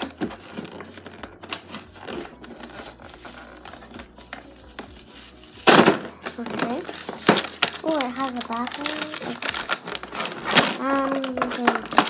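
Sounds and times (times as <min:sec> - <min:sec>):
packaging crinkling and rustling: 0:00.0 - 0:12.0
packaging tearing: 0:00.0 - 0:12.0.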